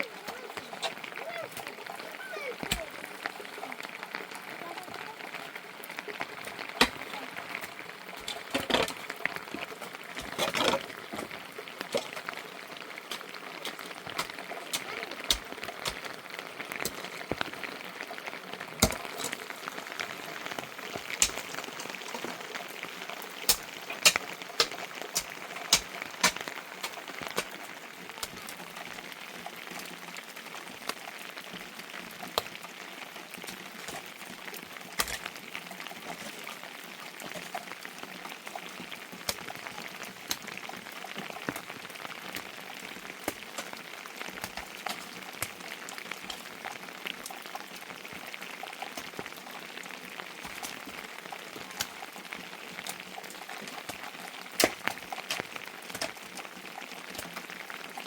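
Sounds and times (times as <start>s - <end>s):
rain hissing: 0.0s - 58.0s
sharp drip ticks and pops: 0.0s - 58.0s.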